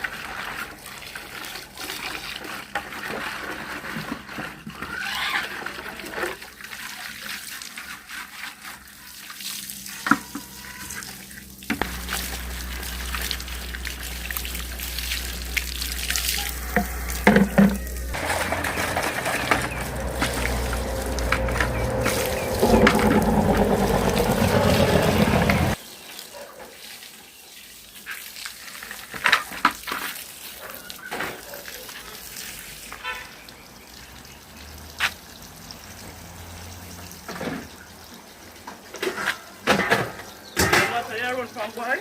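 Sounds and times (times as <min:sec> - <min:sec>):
tap water filling a container: 0:00.0 - 0:10.5, 0:11.4 - 0:23.9, 0:28.2 - 0:31.5, 0:32.5 - 0:41.9.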